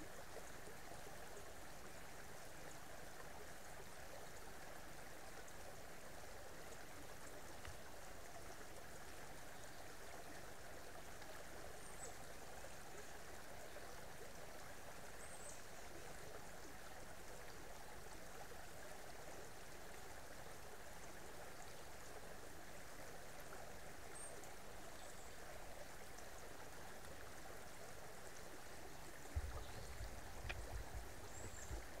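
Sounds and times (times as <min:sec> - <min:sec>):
creek water running: 0:00.0 - 0:32.0.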